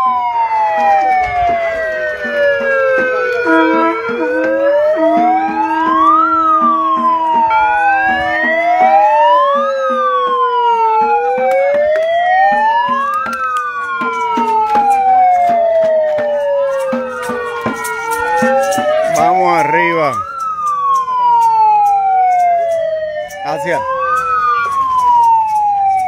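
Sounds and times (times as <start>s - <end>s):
wailing siren: 0.0s - 26.0s.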